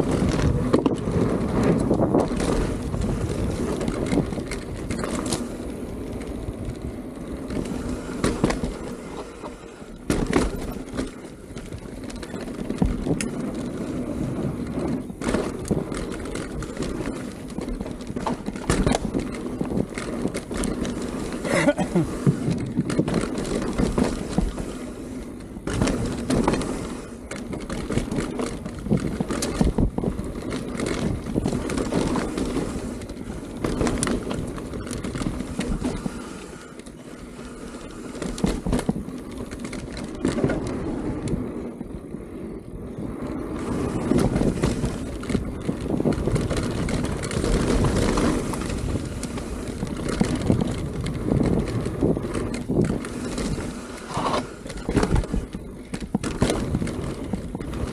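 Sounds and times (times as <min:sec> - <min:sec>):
bike frame and chain clattering: 0:00.0 - 0:57.9
bike tyres rolling over dirt: 0:00.0 - 0:57.9
wind rumbling on microphone: 0:00.0 - 0:57.9.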